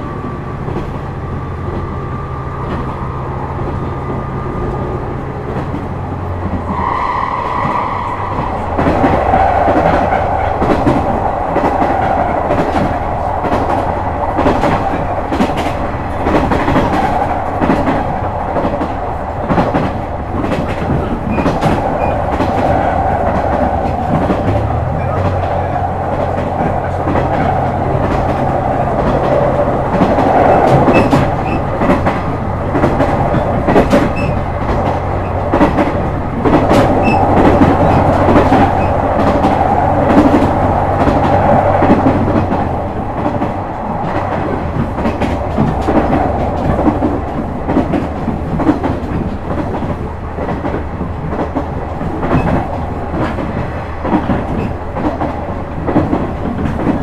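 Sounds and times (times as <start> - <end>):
wheel and track noise: 0.0 - 57.0
wheels clicking over rail joints: 7.5 - 57.0.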